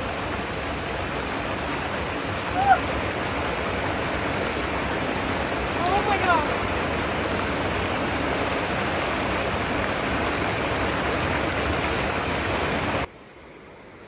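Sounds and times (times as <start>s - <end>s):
stream rushing over boulders: 0.0s - 13.1s.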